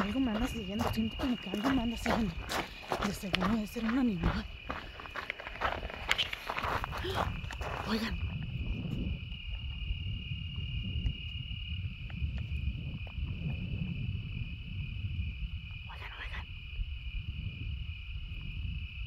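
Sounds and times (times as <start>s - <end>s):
night insects trilling: 0.0s - 19.0s
wind rumbling on microphone: 0.0s - 19.0s.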